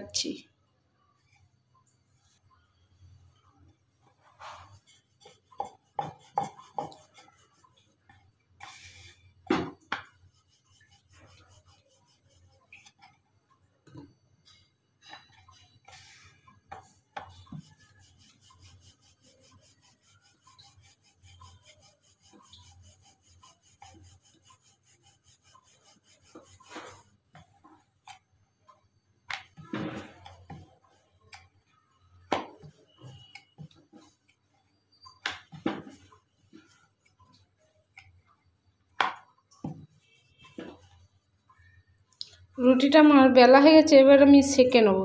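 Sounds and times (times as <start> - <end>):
rolling pin rolling over dough: 2.0 - 14.2, 15.2 - 41.8.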